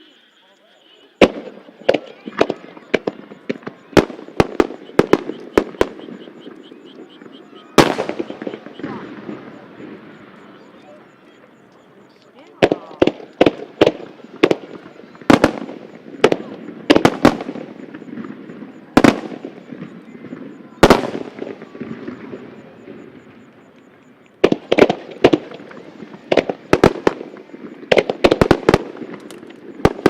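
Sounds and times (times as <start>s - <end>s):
firework bangs echoing: 1.2s - 11.5s, 12.2s - 30.0s.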